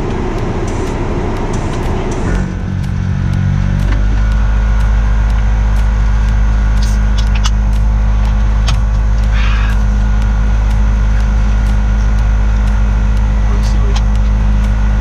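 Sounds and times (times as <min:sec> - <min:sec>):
car engine drone: 0:00.0 - 0:15.0.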